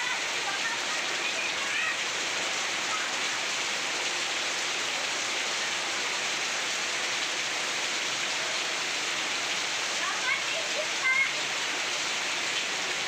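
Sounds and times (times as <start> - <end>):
heavy rain splashing on ground: 0.0 - 13.0.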